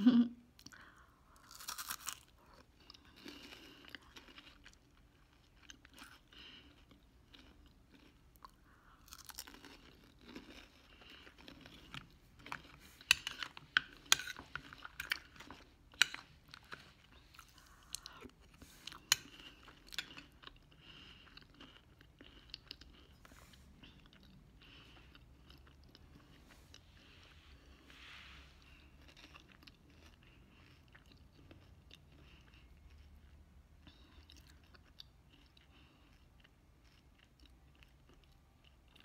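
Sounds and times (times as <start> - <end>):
person chewing food: 0.5 - 39.0.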